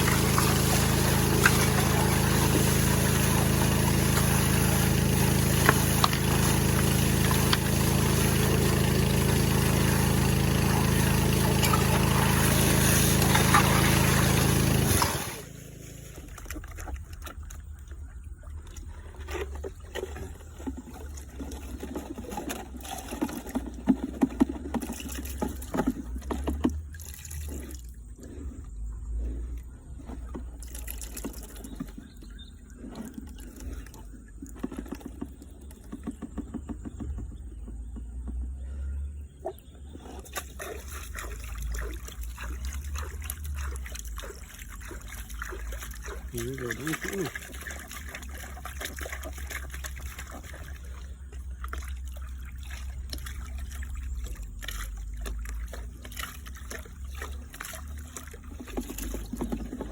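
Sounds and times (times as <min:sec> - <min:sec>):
water splashing and trickling: 0:00.0 - 0:38.7, 0:39.4 - 0:59.9.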